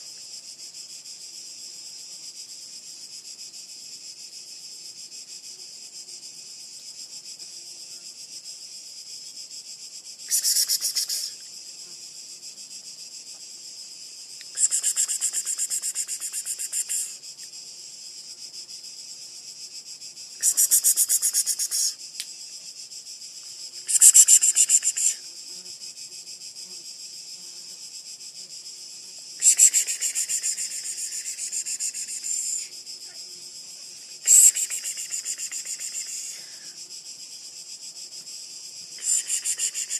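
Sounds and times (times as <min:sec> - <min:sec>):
cicadas buzzing: 0:00.0 - 0:39.9
high-pitched insect drone: 0:05.2 - 0:39.9.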